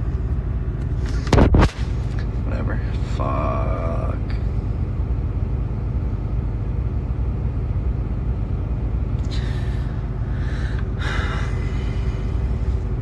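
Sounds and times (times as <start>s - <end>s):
low rumble inside truck cab: 0.0s - 13.0s.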